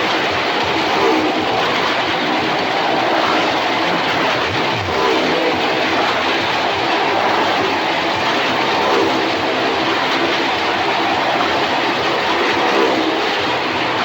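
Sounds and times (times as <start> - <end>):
motorcycle engines droning: 0.0 - 14.0.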